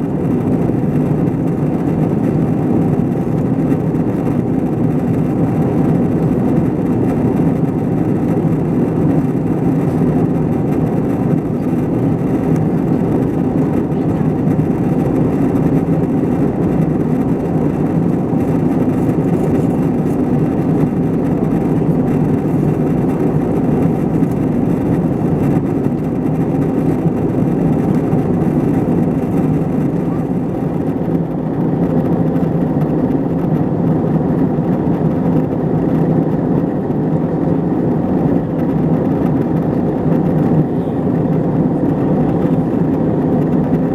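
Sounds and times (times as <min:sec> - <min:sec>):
airliner cabin engine roar: 0:00.0 - 0:43.9.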